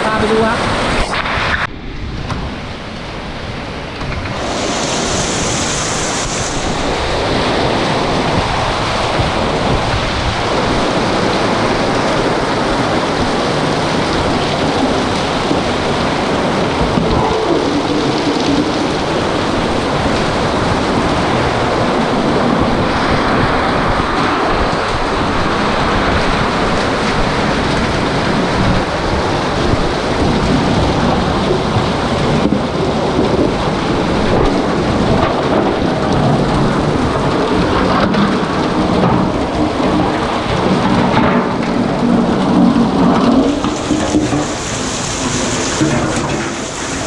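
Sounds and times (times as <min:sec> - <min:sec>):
heavy rain in strong wind: 0:00.0 - 0:47.0.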